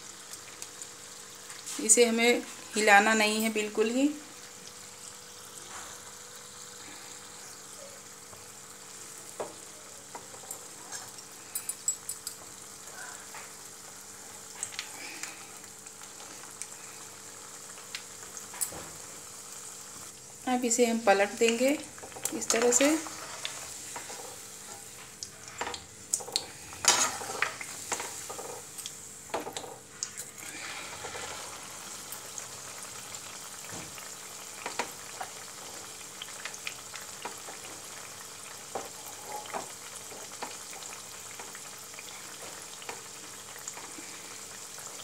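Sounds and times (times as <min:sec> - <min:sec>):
pancake sizzling in oil: 0:00.0 - 0:45.0.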